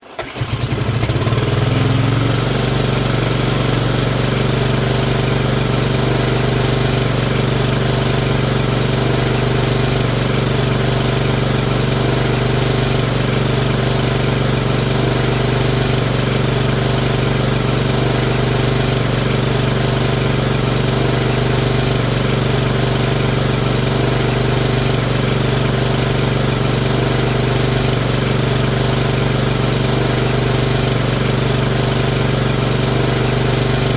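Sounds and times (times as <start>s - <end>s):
lawnmower engine running: 0.0s - 33.9s.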